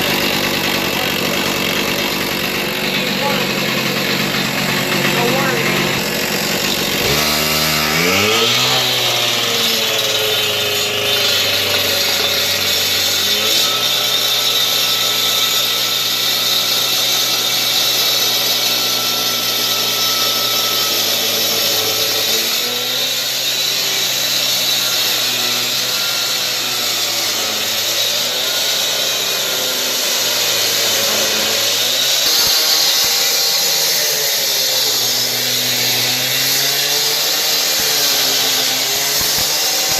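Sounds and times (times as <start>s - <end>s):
power saw cutting concrete: 0.0s - 39.9s.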